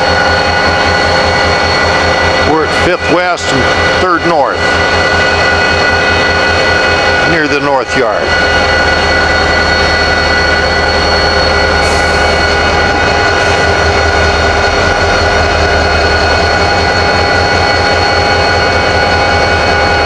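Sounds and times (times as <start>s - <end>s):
diesel locomotive idling: 0.0s - 20.0s
steady high tones: 0.0s - 20.0s.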